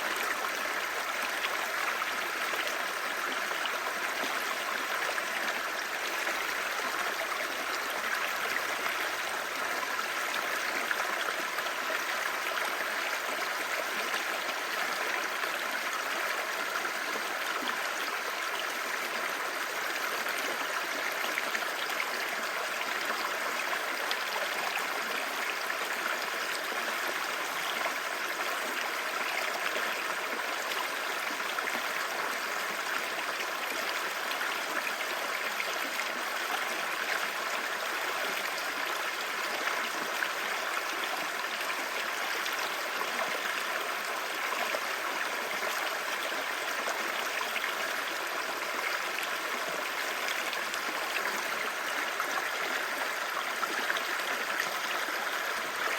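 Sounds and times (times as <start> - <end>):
stream babbling over stones: 0.0 - 55.9.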